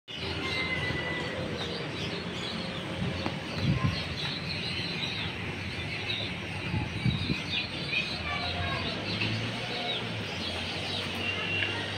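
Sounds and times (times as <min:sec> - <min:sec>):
birds chirping: 0:00.1 - 0:11.9.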